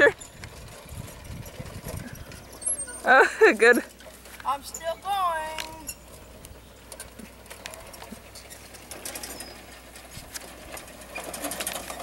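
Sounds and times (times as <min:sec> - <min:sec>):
lawn tractor engine clattering: 0:00.0 - 0:12.0.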